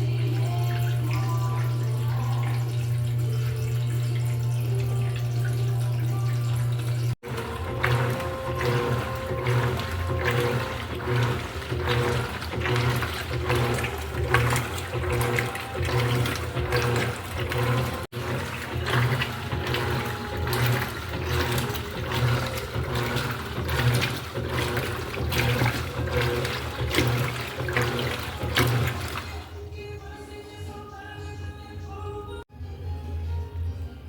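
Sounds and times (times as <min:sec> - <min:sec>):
water sloshing: 0:00.0 - 0:29.7
washing machine motor hum: 0:00.0 - 0:34.0.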